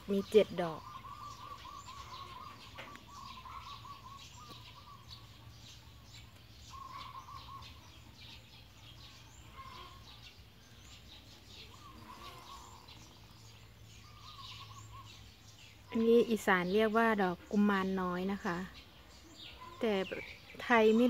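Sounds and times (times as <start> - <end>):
high bird chirps: 0.0 - 21.0.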